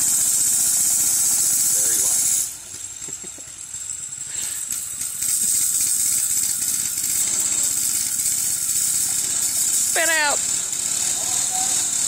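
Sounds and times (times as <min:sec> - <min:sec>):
small gas engine running: 0:00.0 - 0:12.0.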